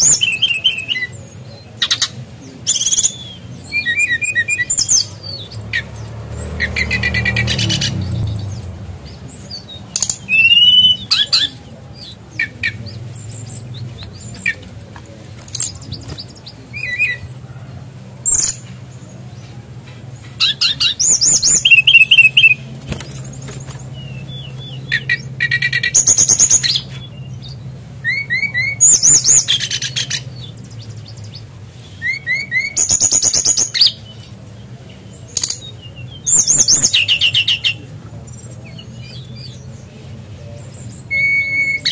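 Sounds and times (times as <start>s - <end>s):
bird singing rapid warbled phrases: 0.0s - 41.9s.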